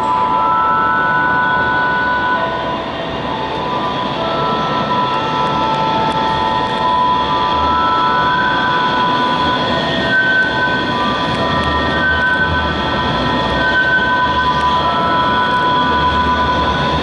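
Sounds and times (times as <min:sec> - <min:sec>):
tram wheels squealing: 0:00.0 - 0:17.0.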